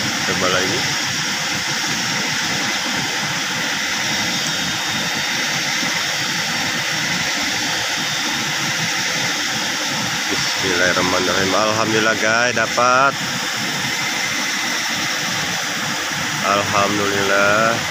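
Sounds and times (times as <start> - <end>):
river rushing over rapids: 0.0 - 17.9.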